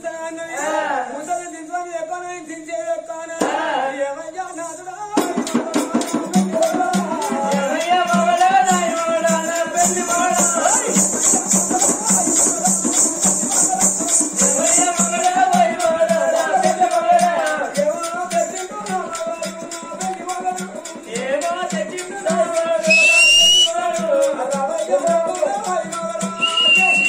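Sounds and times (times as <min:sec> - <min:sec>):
person singing: 0:04.9 - 0:27.0
hand drum beating: 0:05.2 - 0:27.0.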